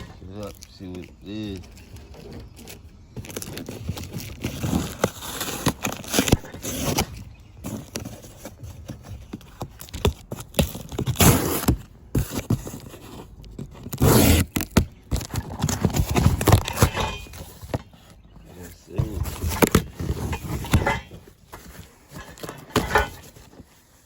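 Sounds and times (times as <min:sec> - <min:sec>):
cardboard box scraping and rustling: 0:01.5 - 0:24.0.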